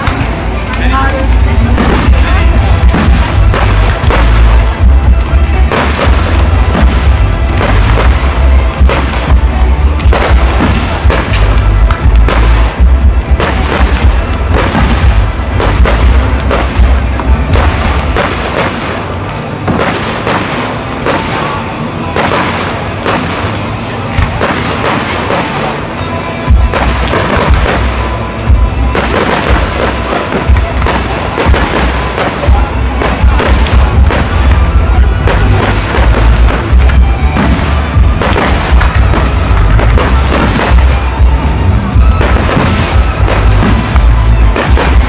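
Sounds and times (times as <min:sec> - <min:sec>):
fireworks bangs and booms: 0:00.0 - 0:45.0
loud music: 0:00.0 - 0:45.0.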